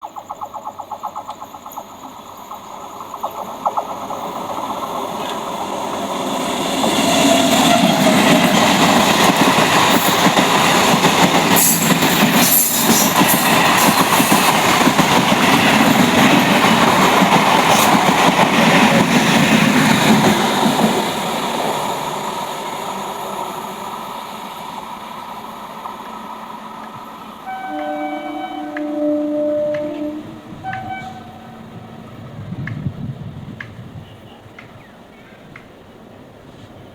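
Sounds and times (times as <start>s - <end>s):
train passing rumble: 0.0s - 36.9s.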